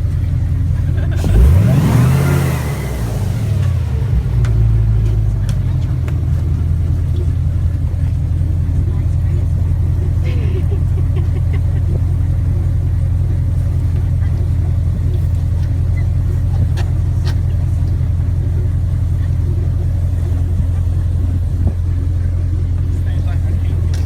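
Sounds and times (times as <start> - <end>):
airboat engine drone: 0.0 - 24.0.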